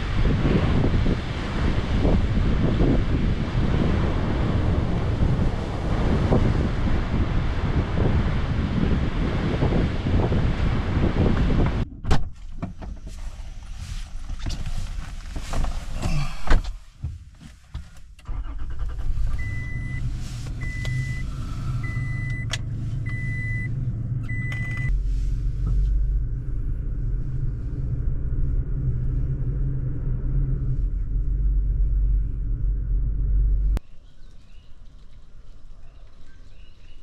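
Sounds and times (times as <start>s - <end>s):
vehicle engine rumbling: 0.0s - 37.0s.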